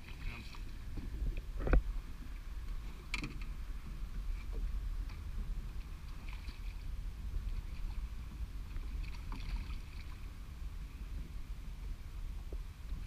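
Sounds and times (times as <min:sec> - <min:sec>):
water lapping against hull: 0:00.0 - 0:13.0
wind rumble on microphone: 0:00.0 - 0:13.0.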